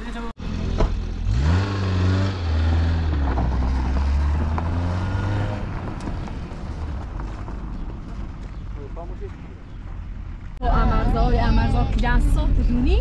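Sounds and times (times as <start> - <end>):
car engine driving off: 0.1 - 12.8.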